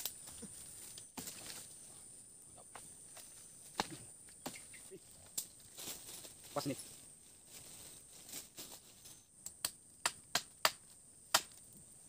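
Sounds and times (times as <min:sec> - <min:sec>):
forest insects droning: 0:00.0 - 0:12.0.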